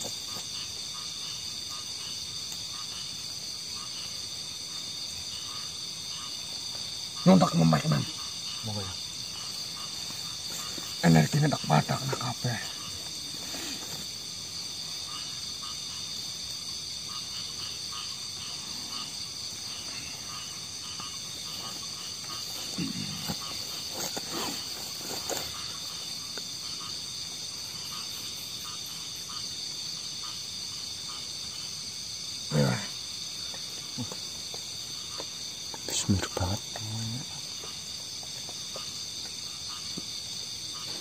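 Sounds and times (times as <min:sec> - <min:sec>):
crickets chirring: 0:00.0 - 0:41.0.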